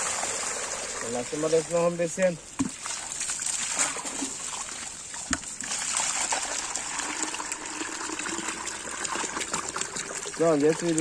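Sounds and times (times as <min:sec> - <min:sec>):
water churning into bucket: 0:00.0 - 0:02.0, 0:02.6 - 0:11.0
water gushing from hose: 0:00.0 - 0:11.0.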